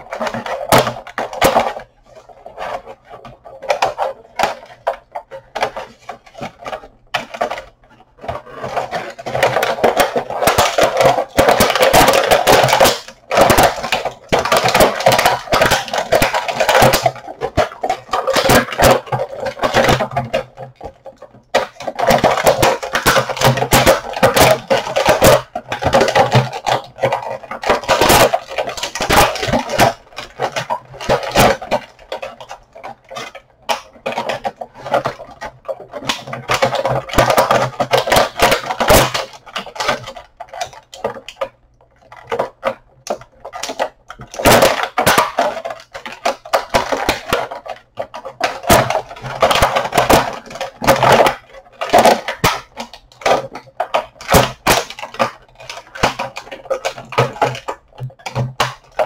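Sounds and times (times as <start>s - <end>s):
packaging rustling and crackling: 0.0s - 59.0s
sharp clicks of plastic parts: 0.0s - 59.0s.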